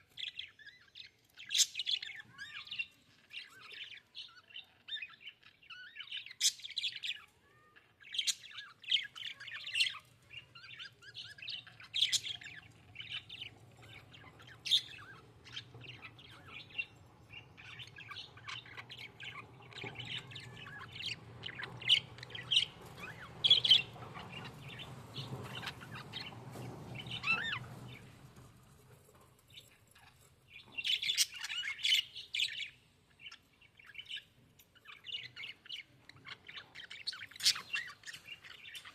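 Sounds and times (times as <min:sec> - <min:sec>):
budgerigars chirping and chattering: 0:00.1 - 0:28.2, 0:29.1 - 0:38.9.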